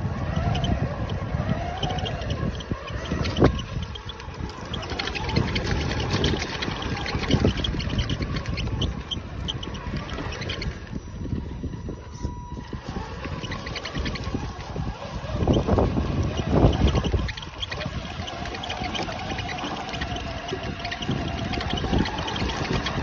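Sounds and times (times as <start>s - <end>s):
toy truck rumbling over pebbles: 0.0s - 11.4s, 12.6s - 23.0s
electric motor whine: 0.0s - 23.0s
wind buffeting microphone: 0.0s - 23.0s.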